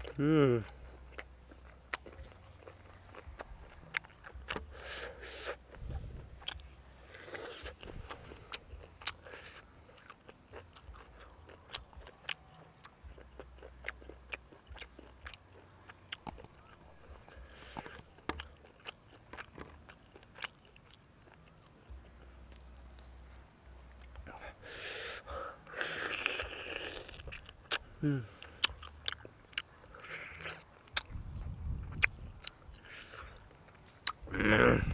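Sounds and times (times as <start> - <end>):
person chewing and biting: 0.0 - 34.9.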